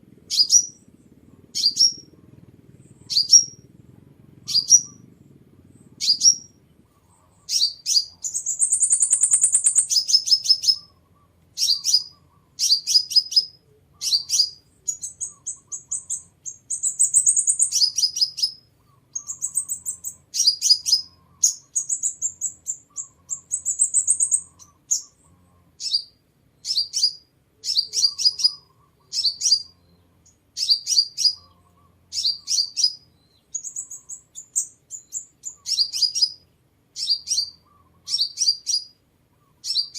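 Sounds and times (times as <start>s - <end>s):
high buzzy bird trills: 0.0s - 39.9s
bird chipping: 0.2s - 39.9s.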